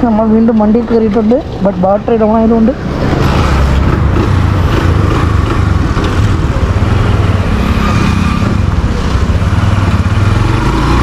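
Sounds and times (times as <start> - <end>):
motorcycle engine running: 1.9 - 11.0.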